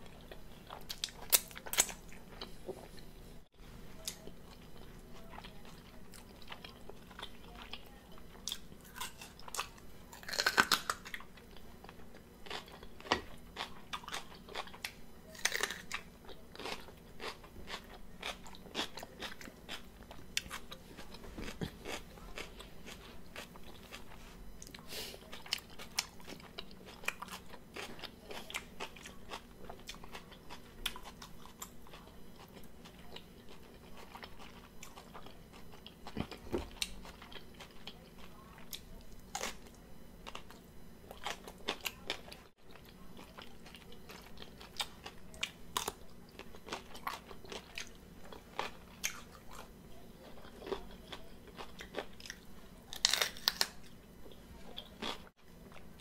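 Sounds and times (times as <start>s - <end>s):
crunchy chewing of raw vegetables: 0.0s - 56.0s.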